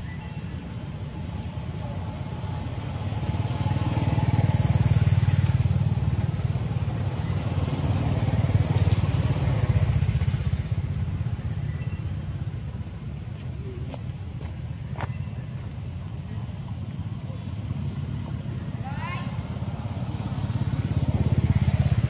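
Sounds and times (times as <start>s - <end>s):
passing motor vehicles rumbling: 0.0s - 22.0s.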